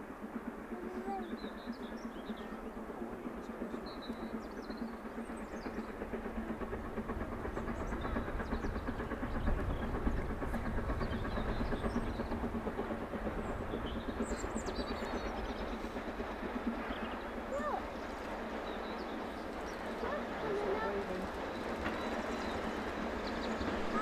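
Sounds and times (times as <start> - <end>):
steam locomotive working: 0.0 - 24.0
wheels running on rails: 0.0 - 24.0.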